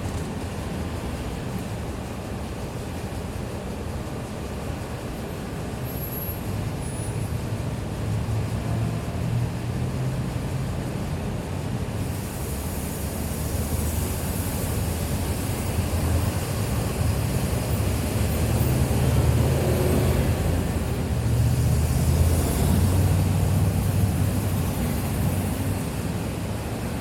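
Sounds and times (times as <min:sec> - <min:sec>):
street noise: 0:00.0 - 0:27.0
traffic rumble: 0:00.0 - 0:27.0.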